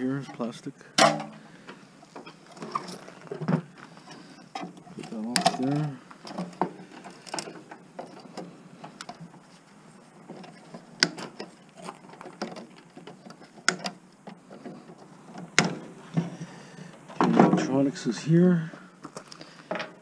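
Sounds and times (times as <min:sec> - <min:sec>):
plastic and metal parts clattering: 0:00.4 - 0:09.4, 0:10.2 - 0:17.8, 0:19.1 - 0:20.0.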